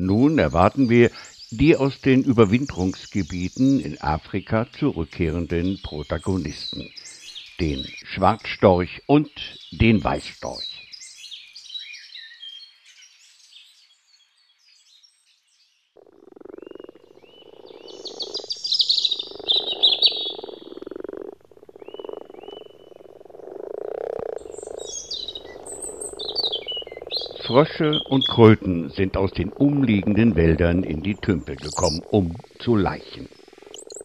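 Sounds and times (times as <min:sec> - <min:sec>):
frogs croaking: 0:00.0 - 0:12.7, 0:15.9 - 0:34.0
small birds chirping: 0:00.0 - 0:15.9, 0:16.5 - 0:34.0.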